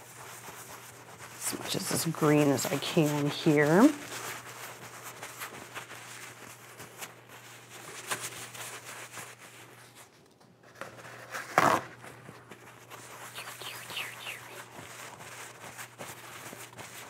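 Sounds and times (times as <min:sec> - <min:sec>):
paper towel rustling: 0:00.0 - 0:17.0.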